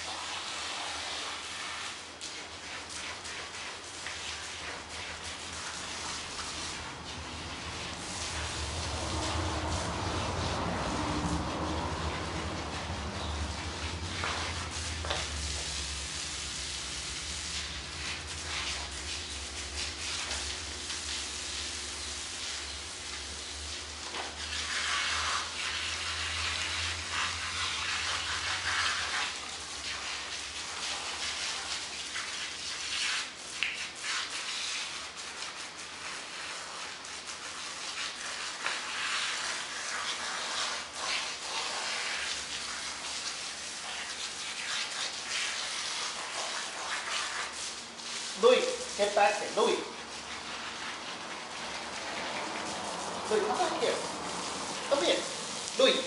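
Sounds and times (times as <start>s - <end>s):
hose spraying water: 0.0s - 56.0s.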